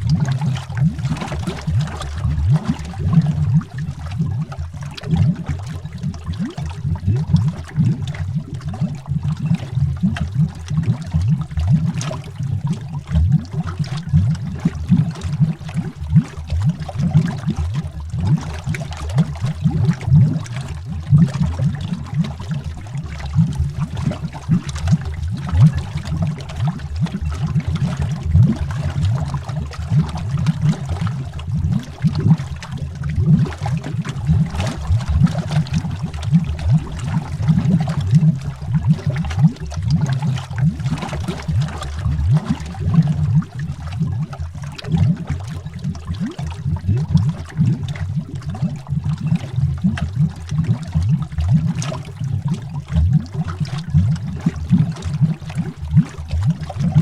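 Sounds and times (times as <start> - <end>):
underwater bubbling: 0.0 - 57.0.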